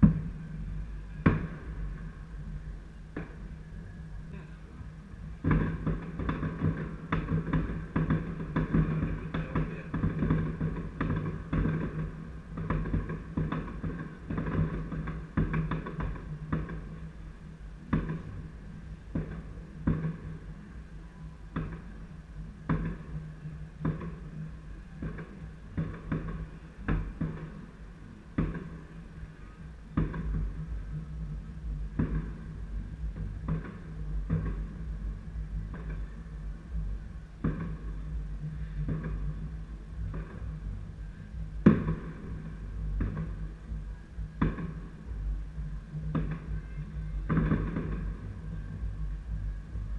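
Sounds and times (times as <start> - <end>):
fireworks exploding: 0.0 - 30.9, 31.9 - 32.5, 33.1 - 34.9, 35.7 - 36.2, 37.3 - 43.7, 44.3 - 45.2, 46.1 - 49.2.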